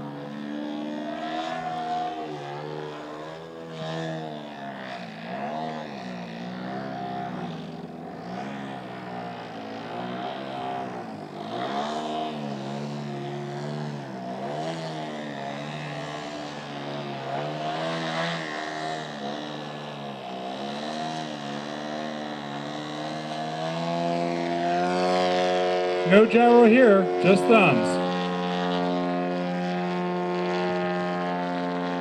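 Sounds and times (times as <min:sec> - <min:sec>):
model airplane engine and propeller: 0:00.0 - 0:32.0.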